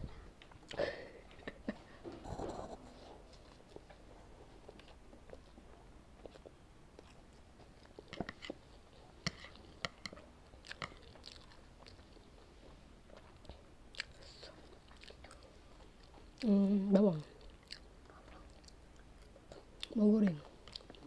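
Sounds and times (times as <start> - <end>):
wet chewing of noodles: 2.9 - 21.0.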